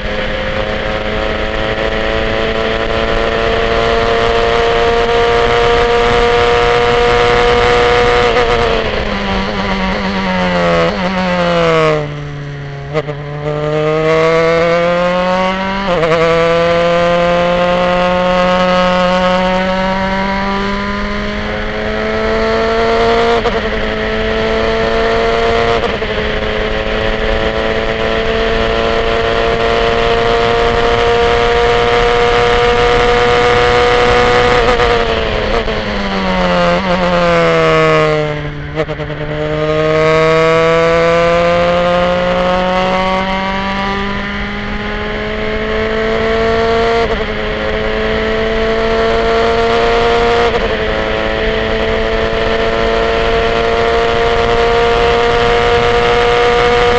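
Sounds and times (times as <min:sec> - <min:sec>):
racing car engine at full throttle: 0:00.0 - 0:56.9.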